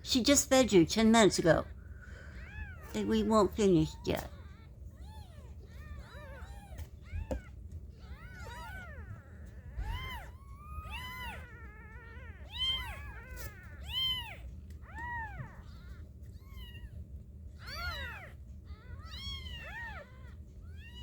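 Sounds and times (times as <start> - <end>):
kittens mewing: 1.1 - 21.0.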